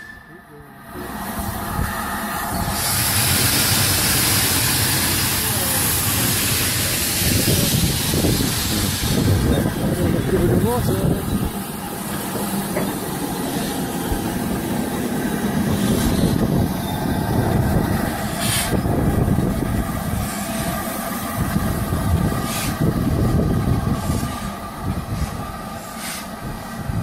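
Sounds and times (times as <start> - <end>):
steam train rumbling: 0.0 - 27.0
steam hisses: 0.9 - 27.0.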